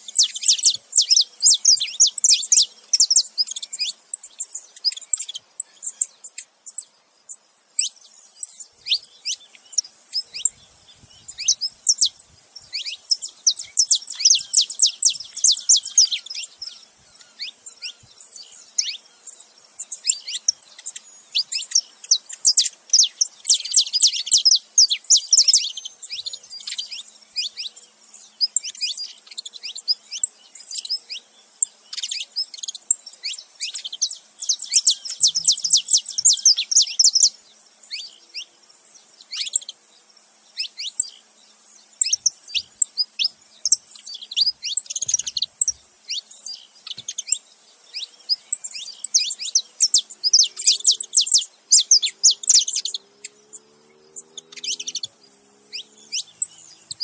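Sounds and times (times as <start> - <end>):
finches chirping: 0.0 - 57.0.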